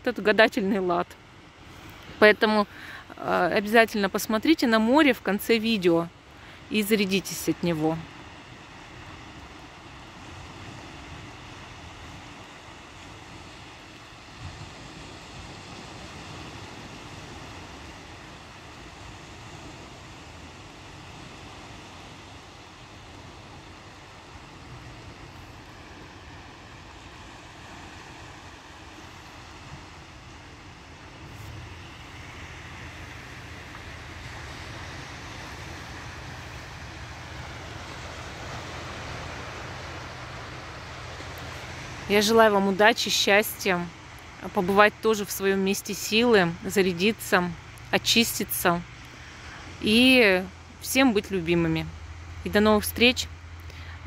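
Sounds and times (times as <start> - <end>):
small waves washing on sand: 0.0 - 54.0.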